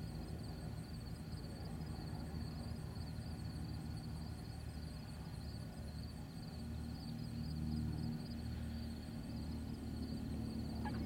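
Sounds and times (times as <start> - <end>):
faint rhythmic high-pitched chirring: 0.0 - 11.0
plane engine drone: 0.0 - 11.0.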